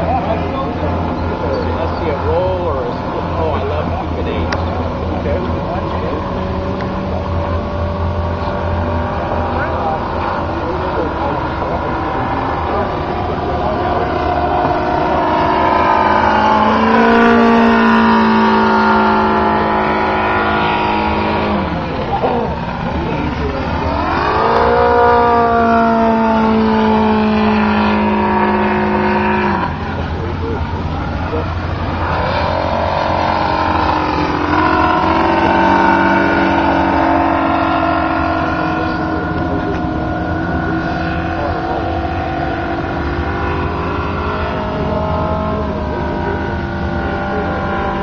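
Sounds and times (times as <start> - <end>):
model airplane engine droning: 0.0 - 48.0.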